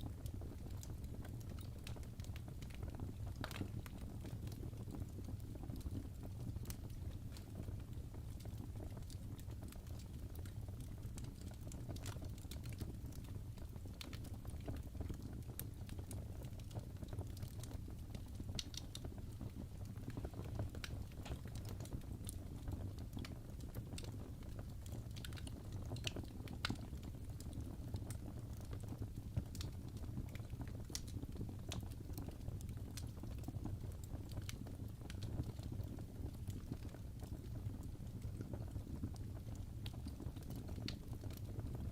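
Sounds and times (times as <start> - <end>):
fire crackling in fireplace: 0.0 - 41.9.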